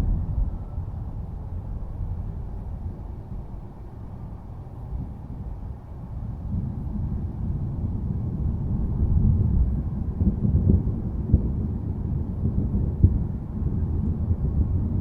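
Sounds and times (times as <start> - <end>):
distant thunder rumbling: 0.0 - 4.3, 4.9 - 15.0.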